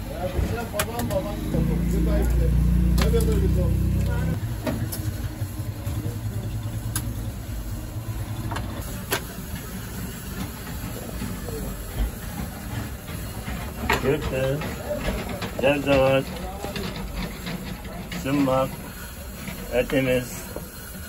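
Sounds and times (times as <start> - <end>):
oven low rumble and hiss: 0.0 - 21.0.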